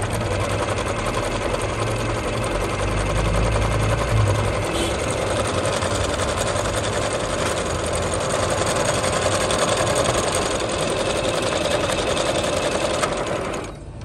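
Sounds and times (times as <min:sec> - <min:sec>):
sewing machine stitching: 0:00.0 - 0:14.0.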